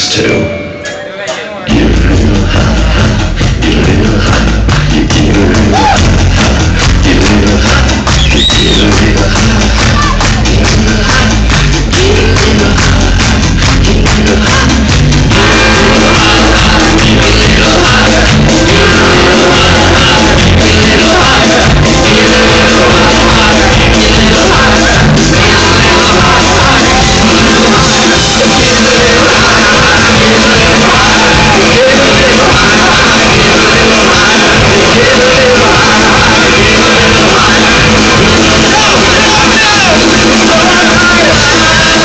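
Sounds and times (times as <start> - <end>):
live rock band with vocals: 0.0 - 42.0.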